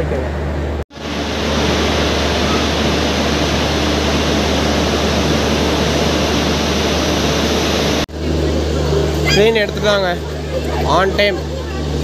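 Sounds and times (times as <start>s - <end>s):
train rushing noise with hum: 0.0s - 10.9s.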